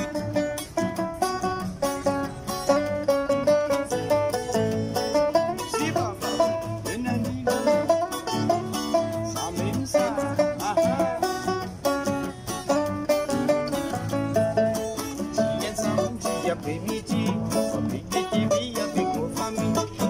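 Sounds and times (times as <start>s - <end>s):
banjo picking: 0.0s - 20.0s.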